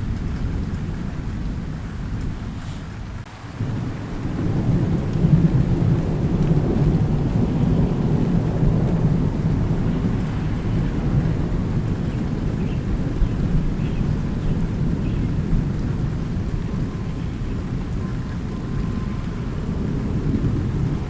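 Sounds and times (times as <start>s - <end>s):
low rumble of thunder: 0.0s - 21.0s
steady rain: 0.0s - 21.0s.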